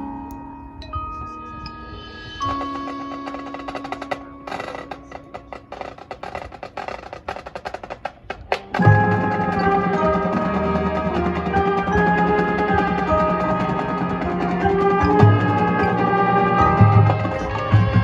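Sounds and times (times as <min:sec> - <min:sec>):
marching band music: 0:02.1 - 0:18.0
percussion clicks and taps: 0:02.4 - 0:18.0.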